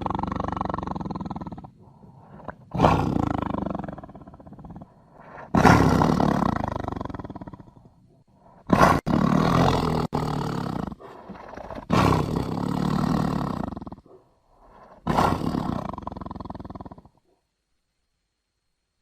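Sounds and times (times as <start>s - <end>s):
tiger roaring: 0.0s - 17.3s.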